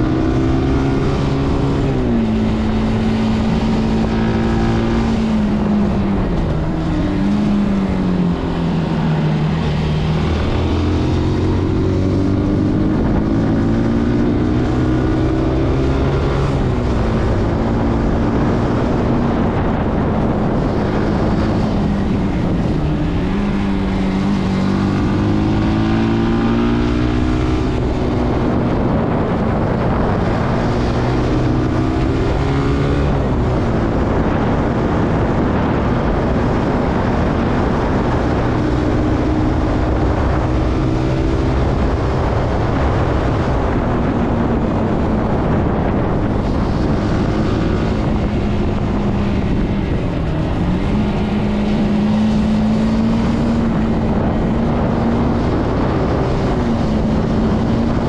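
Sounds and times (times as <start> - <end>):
motorcycle engine accelerating: 0.0 - 58.0
wind rushing past microphone: 0.0 - 58.0.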